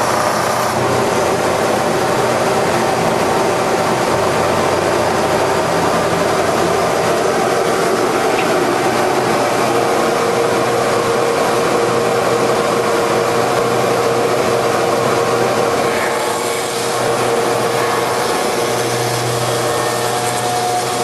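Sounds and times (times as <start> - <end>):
lathe running: 0.0 - 21.0
steady machine whine: 0.0 - 21.0.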